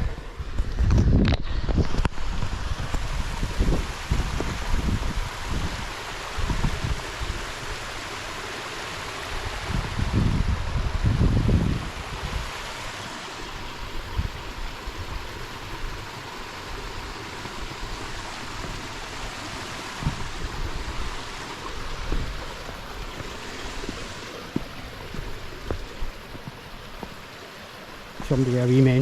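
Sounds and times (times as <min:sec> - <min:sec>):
wind buffeting on microphone: 0:00.0 - 0:07.9, 0:09.3 - 0:12.8, 0:13.5 - 0:27.3
creek water rushing: 0:00.0 - 0:29.0.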